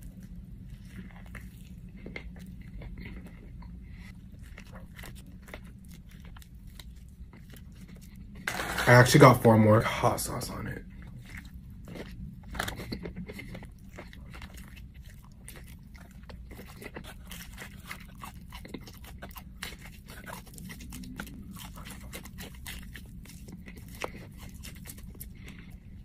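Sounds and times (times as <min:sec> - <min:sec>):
crunching fried food: 0:00.0 - 0:26.0.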